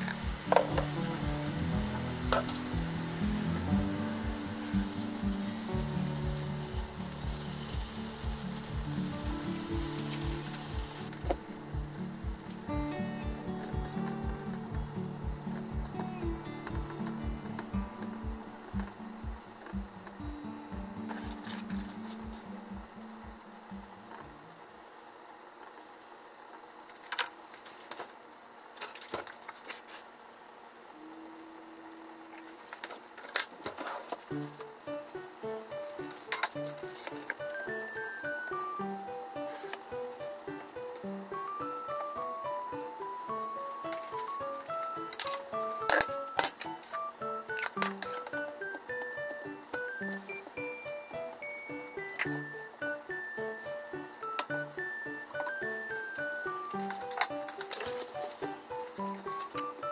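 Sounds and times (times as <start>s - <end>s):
food sizzling in a frying pan: 0.0s - 23.7s, 32.4s - 59.9s
background music with steady beat: 0.0s - 24.6s, 34.3s - 59.9s.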